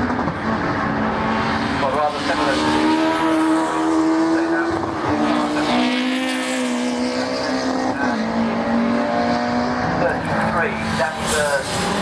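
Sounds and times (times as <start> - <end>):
racing car engines at high revs: 0.0 - 12.0.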